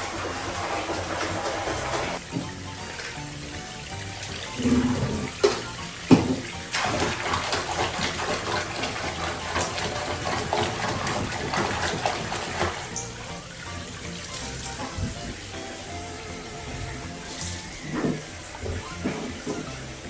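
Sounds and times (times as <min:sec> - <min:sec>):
water splashing in a bathtub: 0:00.0 - 0:20.0.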